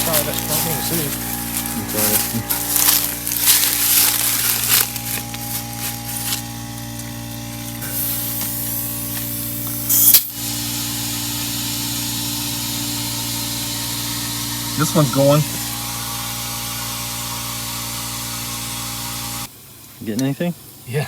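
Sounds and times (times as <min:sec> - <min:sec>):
compressed air hissing: 0:00.0 - 0:19.5
steady machine hum: 0:00.0 - 0:19.7.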